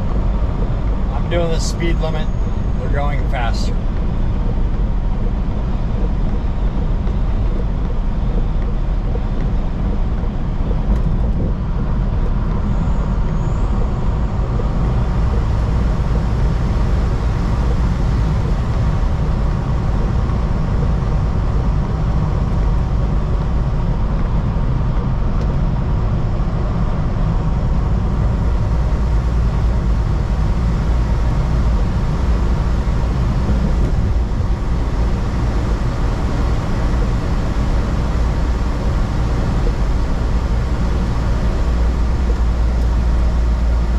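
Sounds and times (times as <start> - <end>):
road noise inside cab: 0.0 - 43.9
truck engine rumble: 0.0 - 43.9.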